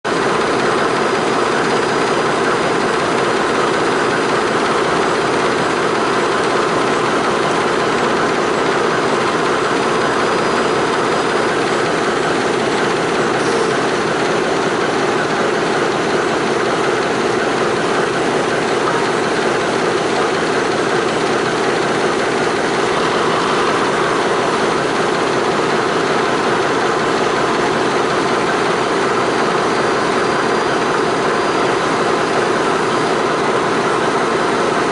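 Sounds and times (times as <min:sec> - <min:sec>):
crane engine running: 0:00.1 - 0:34.9.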